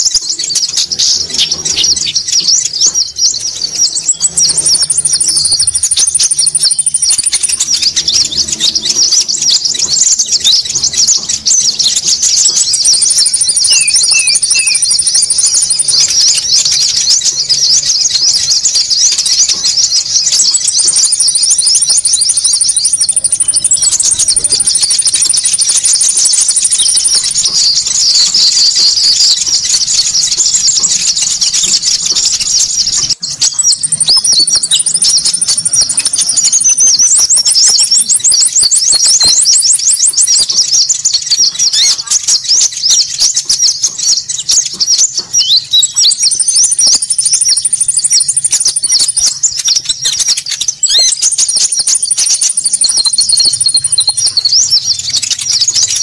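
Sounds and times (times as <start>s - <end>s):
birds chattering calls: 0.0s - 56.0s
thin high bird trill: 0.0s - 56.0s.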